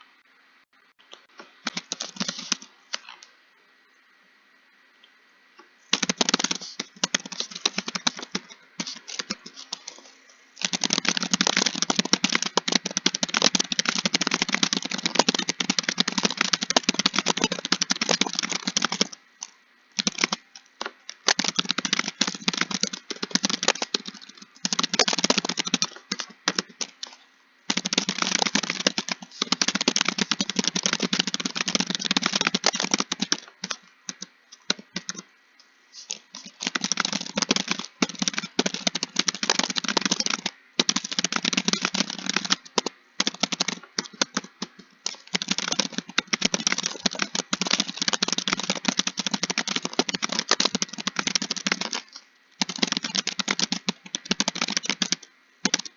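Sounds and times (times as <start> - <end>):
typing on computer keyboard: 1.6 - 3.2, 5.9 - 35.3, 36.0 - 55.9.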